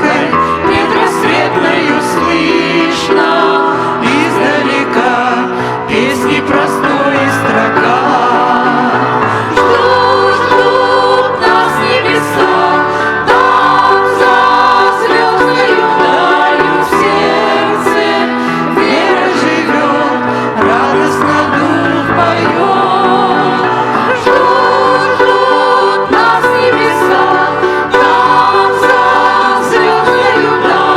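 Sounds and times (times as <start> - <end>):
group singing a christian song: 0.0 - 30.9
instrumental accompaniment: 0.0 - 30.9.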